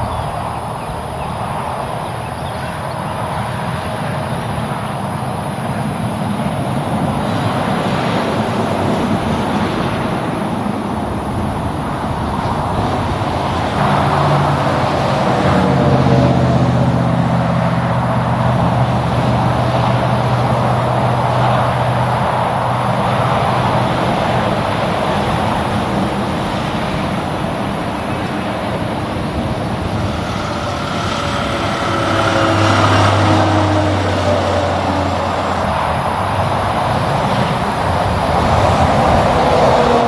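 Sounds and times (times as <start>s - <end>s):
road traffic noise: 0.0s - 40.0s
truck engine drone: 0.0s - 40.0s.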